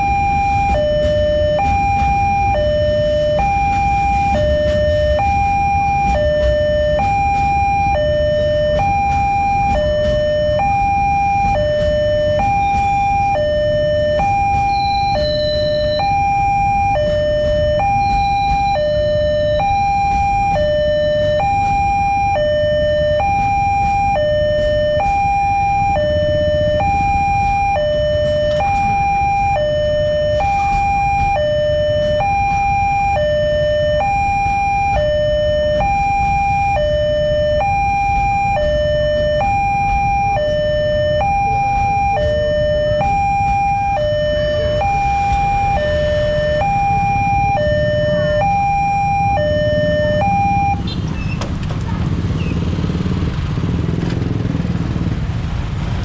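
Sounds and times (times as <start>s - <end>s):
level crossing two-tone alarm: 0.0s - 51.0s
freight train rumbling: 0.0s - 56.0s.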